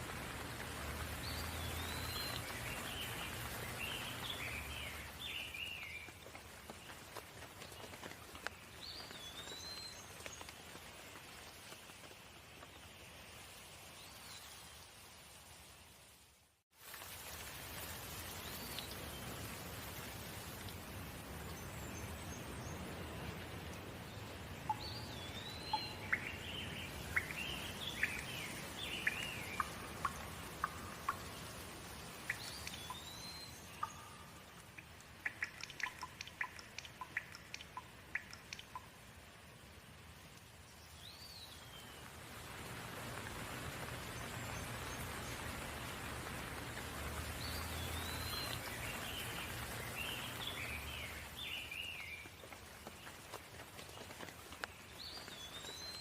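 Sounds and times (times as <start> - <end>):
sharp drip-like ticks: 0.0 - 12.9, 16.8 - 41.5, 43.1 - 56.0
songbirds chirping: 0.0 - 16.2, 18.1 - 56.0
rain falling: 0.0 - 56.0.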